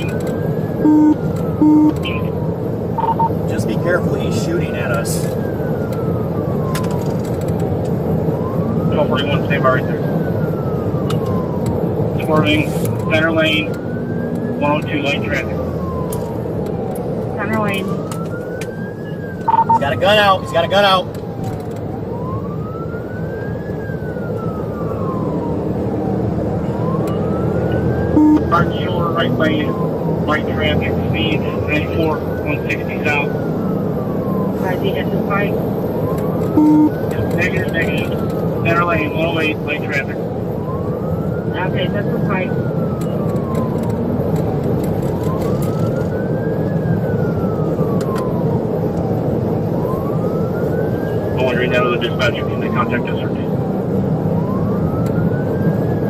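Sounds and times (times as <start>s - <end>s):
car driving at high speed: 0.0s - 56.0s
police siren wailing: 0.0s - 56.0s
road and engine noise: 0.0s - 56.0s.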